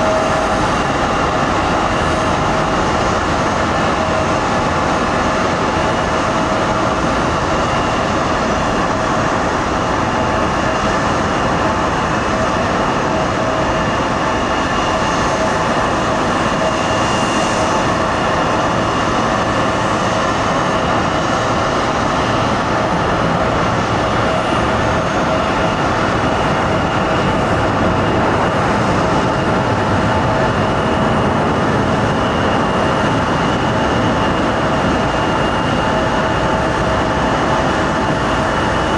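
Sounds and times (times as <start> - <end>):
jet engines roaring and whining: 0.0 - 38.9.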